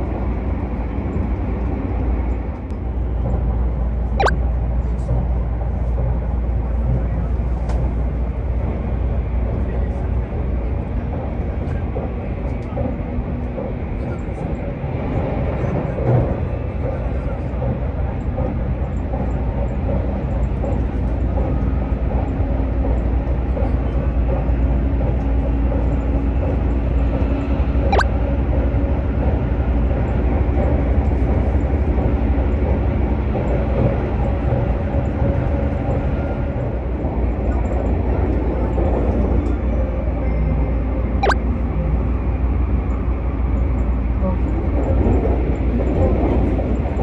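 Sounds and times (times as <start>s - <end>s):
train running noise from inside: 0.0s - 47.0s.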